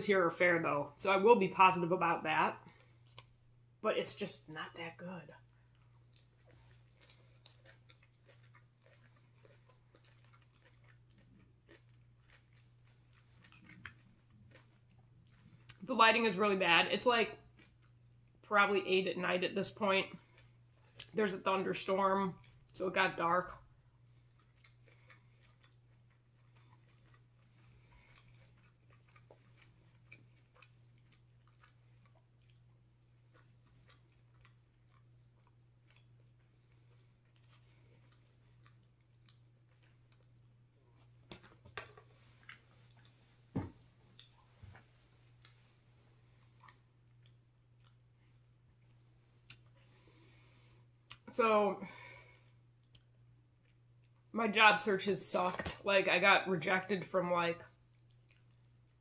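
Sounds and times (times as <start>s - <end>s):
low steady hum: 0.0s - 59.0s
chewing salad: 2.6s - 3.4s, 5.4s - 15.9s, 17.4s - 18.5s, 19.7s - 51.3s, 52.0s - 54.3s, 57.8s - 59.0s.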